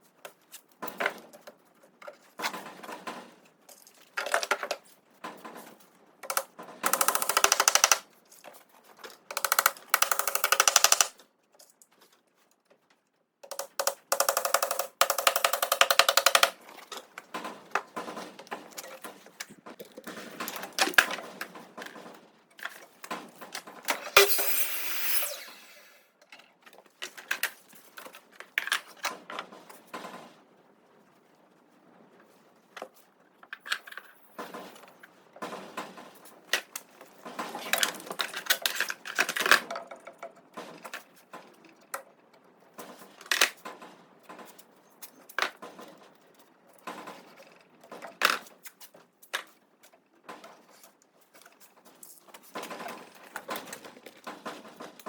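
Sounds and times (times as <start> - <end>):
tools and wood clattering: 0.1 - 30.4, 32.2 - 55.0.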